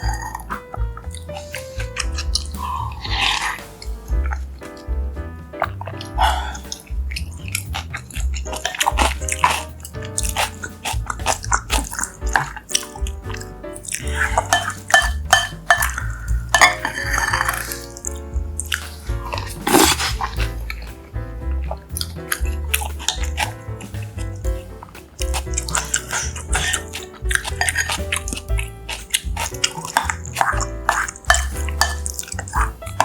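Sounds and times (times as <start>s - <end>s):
chewing: 0.0s - 4.9s, 5.6s - 33.0s
background music with bass line: 0.0s - 33.0s.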